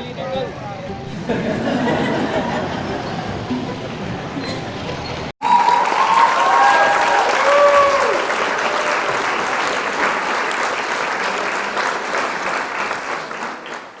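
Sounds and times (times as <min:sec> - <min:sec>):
crowd applause: 0:01.1 - 0:04.6, 0:05.4 - 0:14.0.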